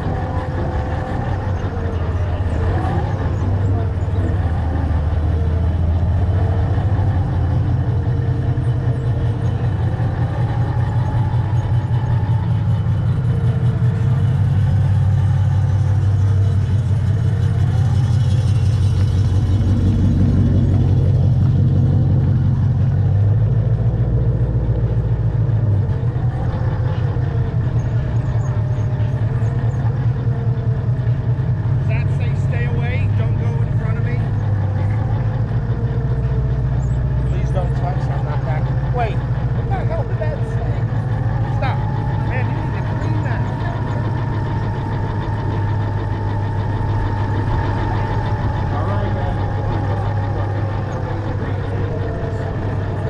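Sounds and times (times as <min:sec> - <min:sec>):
radio-controlled car motor rumble: 0:00.0 - 0:53.0
wavering motor whine: 0:00.0 - 0:53.0.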